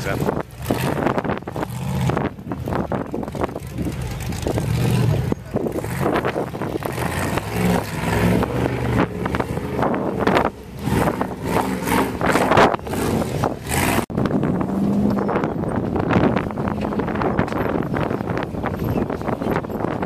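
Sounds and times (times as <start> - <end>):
race car engine revving: 0.0 - 20.0
wind buffeting microphone: 0.0 - 20.0.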